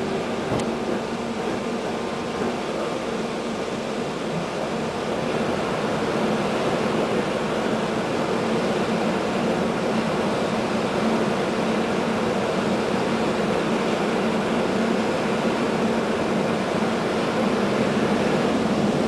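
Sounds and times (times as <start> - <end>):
train wheels rolling on rails: 0.0 - 19.0.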